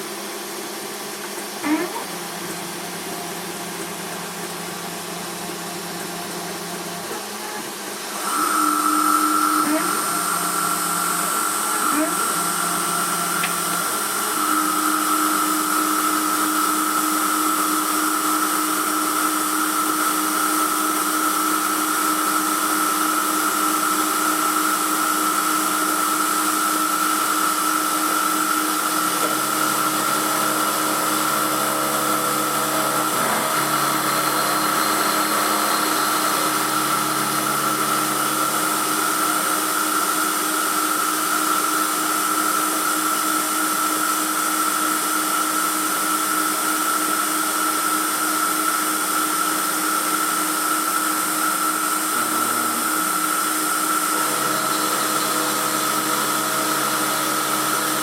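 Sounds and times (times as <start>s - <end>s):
milling machine motor whine: 0.1s - 58.0s.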